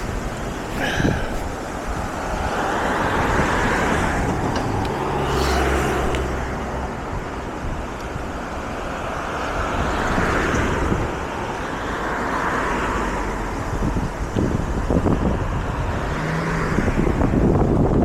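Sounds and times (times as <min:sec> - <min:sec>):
cars passing: 0:00.0 - 0:18.0
wind rumble on microphone: 0:00.0 - 0:18.0.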